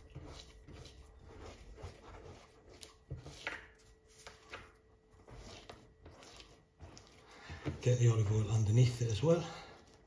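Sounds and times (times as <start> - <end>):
hands patting and rubbing dough: 0.0 - 10.0.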